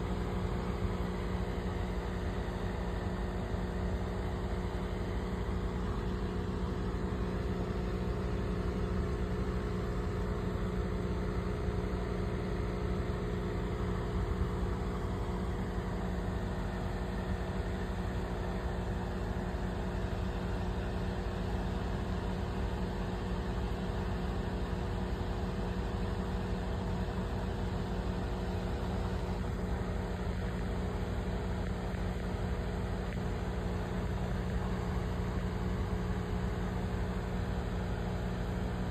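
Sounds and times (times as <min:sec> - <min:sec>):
aquarium air pump humming: 0:00.0 - 0:38.9.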